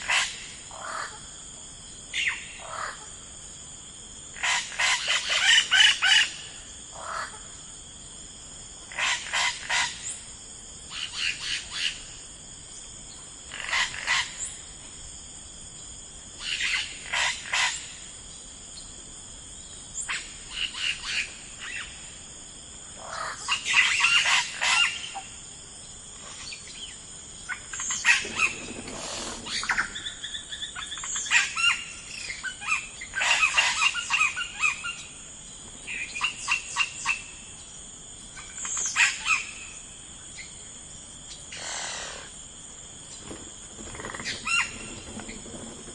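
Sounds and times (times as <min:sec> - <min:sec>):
high background hiss: 0:00.0 - 0:45.9.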